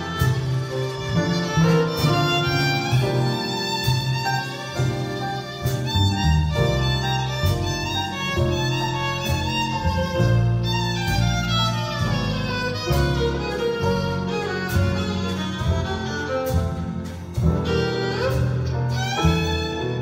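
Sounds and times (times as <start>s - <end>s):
jazz band playing: 0.0s - 20.0s
violin melody: 0.0s - 20.0s.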